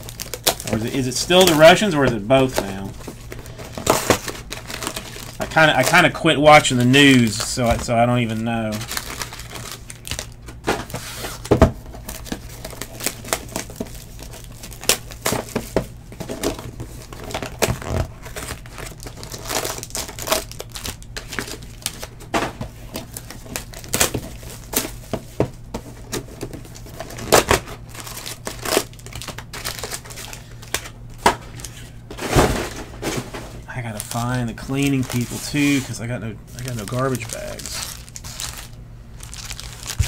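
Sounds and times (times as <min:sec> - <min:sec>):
foil wrappers crinkling and tearing: 0:00.0 - 0:25.2, 0:25.8 - 0:40.0.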